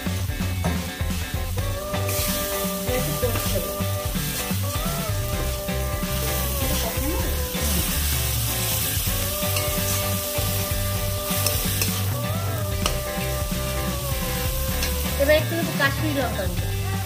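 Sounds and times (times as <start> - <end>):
background music: 0.0 - 17.0
spices sizzling in hot oil: 0.0 - 17.0.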